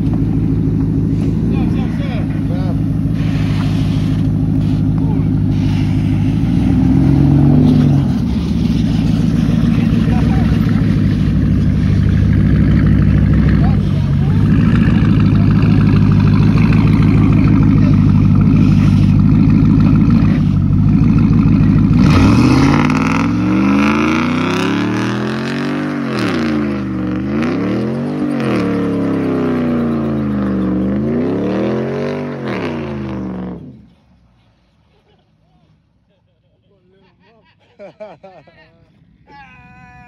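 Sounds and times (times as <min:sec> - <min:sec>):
truck engine revving: 0:00.0 - 0:34.2.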